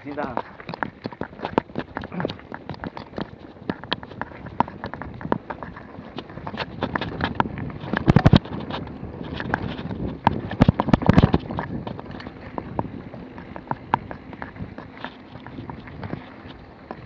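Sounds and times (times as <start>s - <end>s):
bike clattering on dirt trail: 0.0s - 17.0s.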